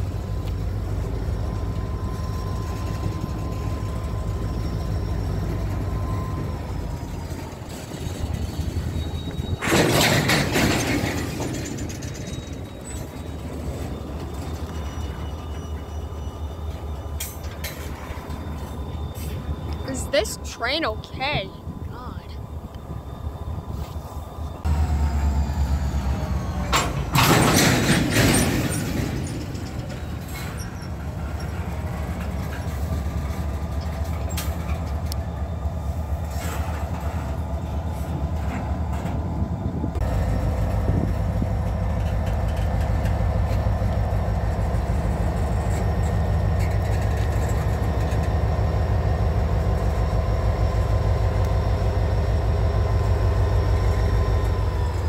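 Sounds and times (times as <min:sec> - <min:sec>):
diesel locomotive engine drone: 0:00.0 - 0:55.0
freight train rolling past: 0:00.0 - 0:55.0.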